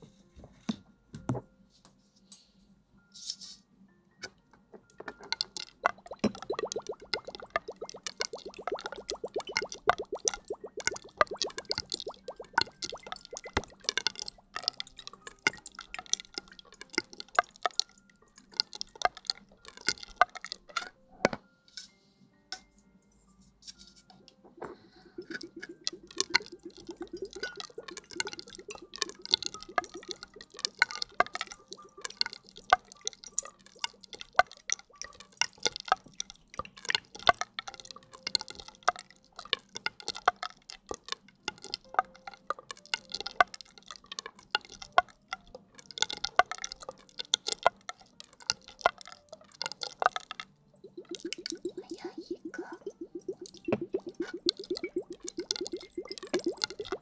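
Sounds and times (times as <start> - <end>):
wet clicks of hair washing: 5.2 - 20.6, 24.6 - 57.0.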